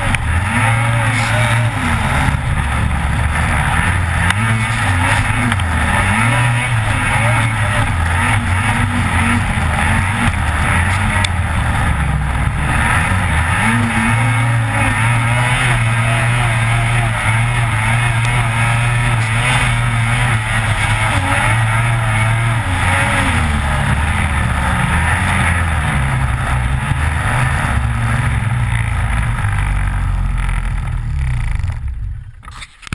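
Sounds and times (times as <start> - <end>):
snowmobile engine at speed: 0.0 - 32.9.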